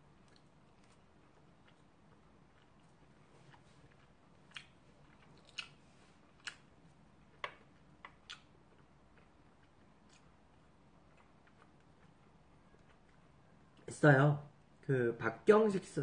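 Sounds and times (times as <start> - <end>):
quiet chewing: 0.0 - 13.9.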